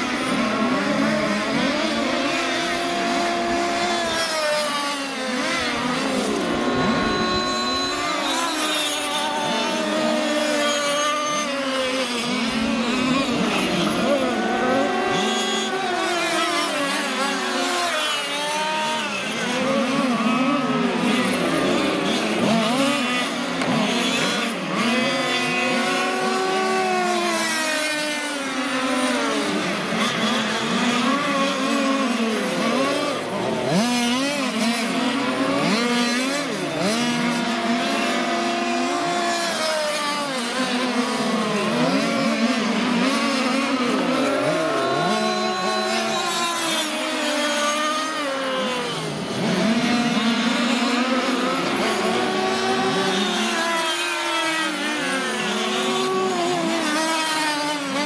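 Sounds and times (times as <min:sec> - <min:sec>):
small two-stroke engines buzzing: 0:00.0 - 0:58.0.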